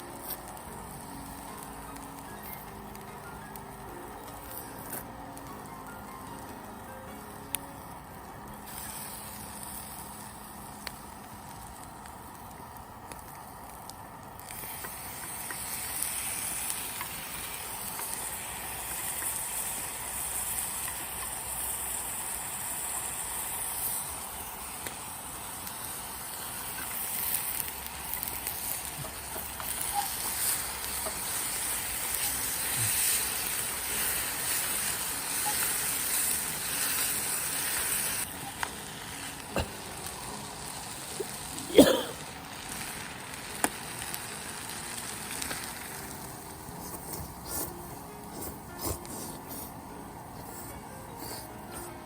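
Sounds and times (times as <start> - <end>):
campfire hissing: 0.0 - 52.0
fire crackles and pops: 0.0 - 52.0.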